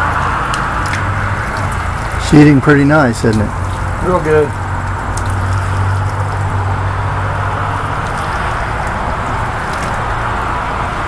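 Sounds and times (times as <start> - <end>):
water spraying onto glass: 0.0 - 11.0.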